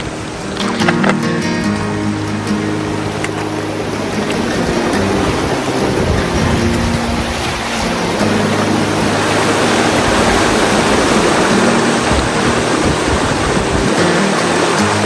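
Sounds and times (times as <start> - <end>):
music of held low notes: 0.0 - 15.0
river water rushing: 0.0 - 15.0.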